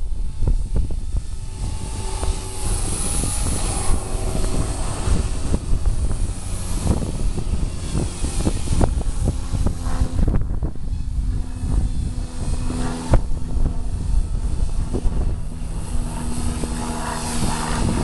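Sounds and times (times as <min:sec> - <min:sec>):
toy helicopter motor whine: 0:00.0 - 0:18.0
wind buffeting microphone: 0:00.0 - 0:18.0.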